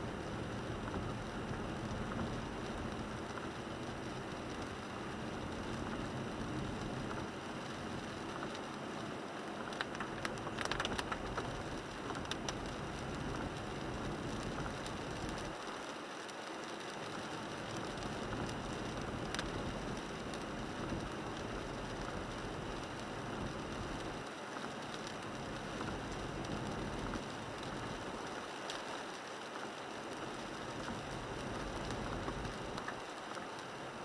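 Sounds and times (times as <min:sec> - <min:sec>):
tyre noise on wet road: 0:00.0 - 0:34.0
raindrops tapping windshield: 0:00.2 - 0:33.9.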